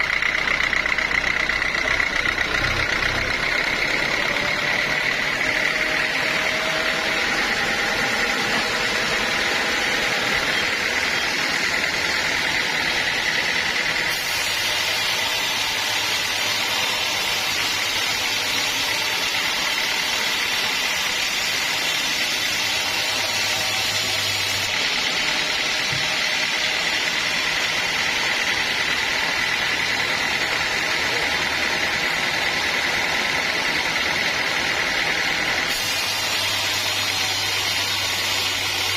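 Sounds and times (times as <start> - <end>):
high machine whine: 0.0 - 38.9
sawmill machinery motor drone: 0.0 - 38.9.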